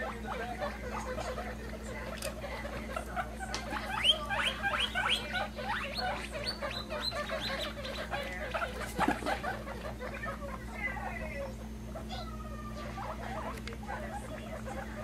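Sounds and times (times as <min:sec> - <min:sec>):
guinea pigs squeaking: 0:00.0 - 0:15.0.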